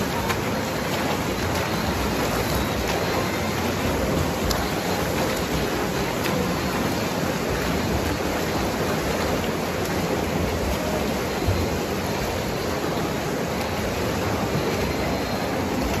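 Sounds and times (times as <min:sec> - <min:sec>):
swimmers splashing pool water: 0:00.0 - 0:16.0.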